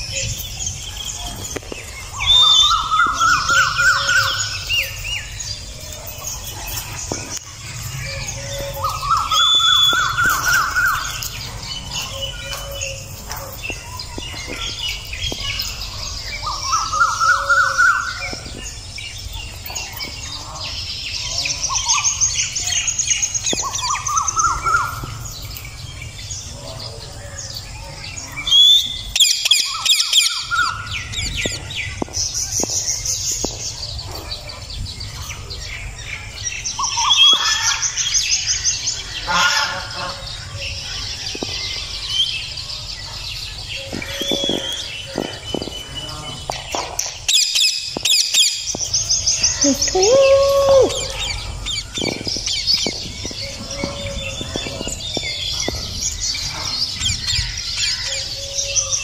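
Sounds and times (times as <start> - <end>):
rising chattering bird call: 0.0 - 35.6, 36.2 - 59.0.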